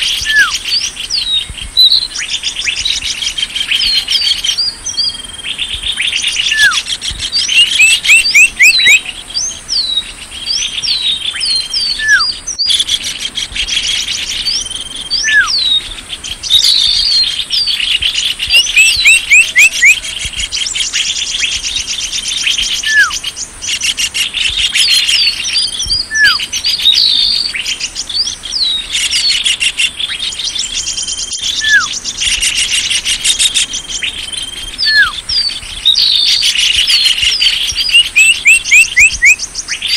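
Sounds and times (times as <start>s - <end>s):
falling bird whistles: 0.0s - 3.0s, 3.8s - 12.9s, 13.8s - 15.8s, 16.4s - 20.0s, 22.6s - 30.4s, 31.0s - 39.9s
songbirds chirping and trilling: 0.0s - 39.9s.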